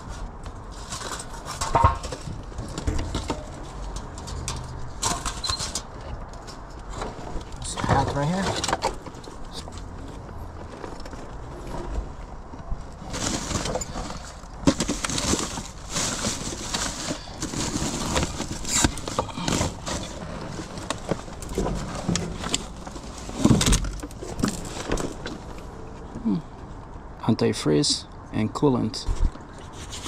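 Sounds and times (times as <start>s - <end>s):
rustling and knocking of items: 0.0s - 26.3s.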